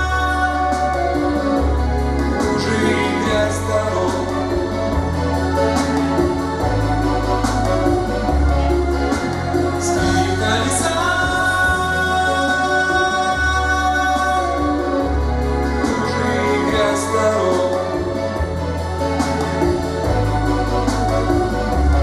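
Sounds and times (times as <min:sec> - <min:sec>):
deep bass line: 0:00.0 - 0:22.0
person singing: 0:00.0 - 0:22.0.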